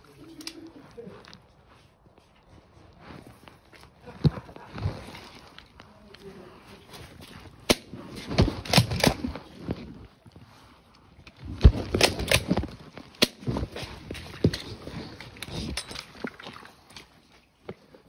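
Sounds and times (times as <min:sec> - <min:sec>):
footsteps: 0:00.0 - 0:17.8.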